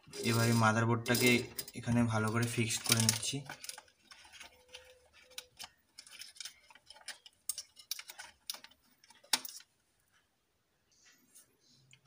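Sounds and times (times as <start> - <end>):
plastic parts clicking and tapping: 0.0 - 10.2.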